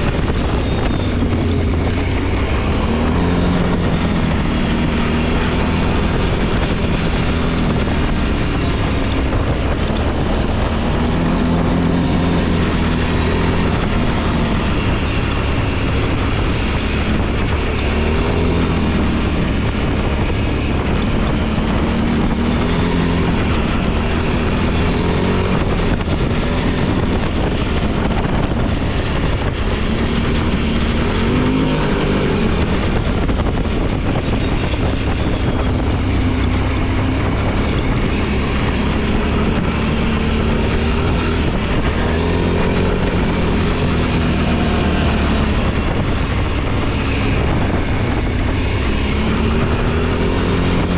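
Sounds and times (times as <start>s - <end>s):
off-road vehicle engine revving: 0.0s - 50.9s.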